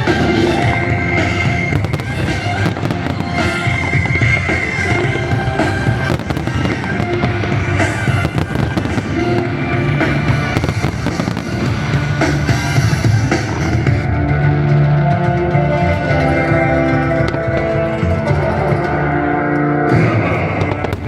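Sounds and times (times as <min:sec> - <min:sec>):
fireworks bursting and crackling: 0:00.0 - 0:14.1, 0:15.8 - 0:21.0
loud music: 0:00.0 - 0:21.0.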